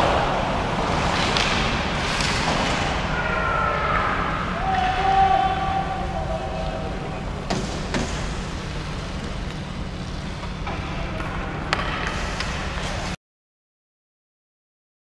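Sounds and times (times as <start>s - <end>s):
hockey sticks and puck clacking: 0.0s - 6.8s, 7.4s - 13.2s
low arena hum: 0.0s - 13.2s.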